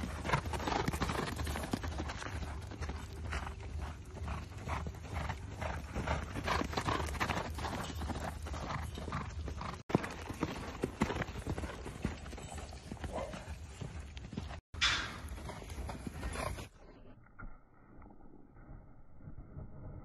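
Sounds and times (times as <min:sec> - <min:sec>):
horse hoofbeats on sand: 0:00.0 - 0:16.9.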